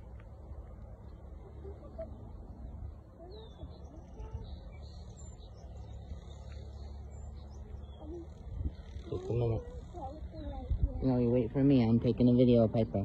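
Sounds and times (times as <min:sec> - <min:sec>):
faint bird calls: 0:00.0 - 0:11.4
steady low rumble: 0:00.0 - 0:13.0.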